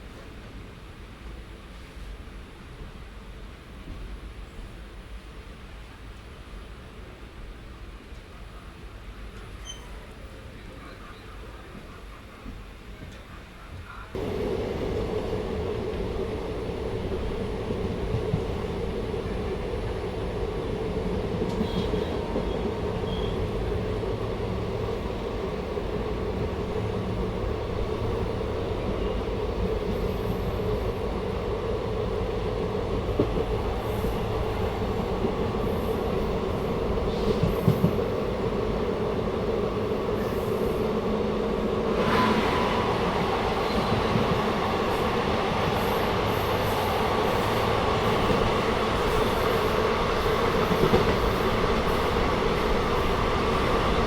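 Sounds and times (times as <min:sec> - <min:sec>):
train wheels rumbling on rails: 0:05.7 - 0:54.0.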